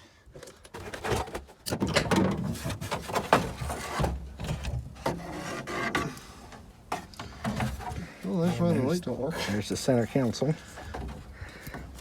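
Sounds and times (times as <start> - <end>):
plastic console scraping and rubbing: 0.7 - 6.2, 7.0 - 12.0.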